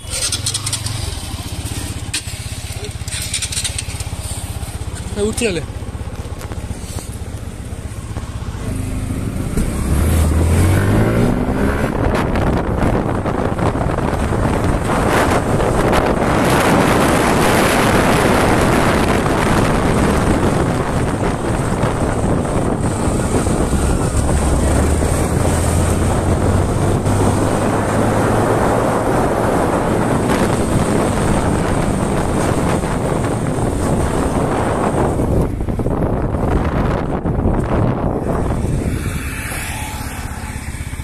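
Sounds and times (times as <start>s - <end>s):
motorcycle engine humming: 0.0s - 41.0s
wind rushing over microphone: 0.0s - 41.0s.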